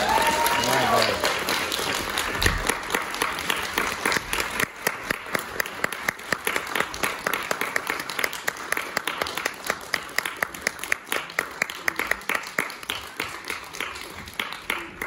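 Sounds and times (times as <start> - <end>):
audience clapping: 0.0 - 15.0
loud individual claps: 0.0 - 15.0.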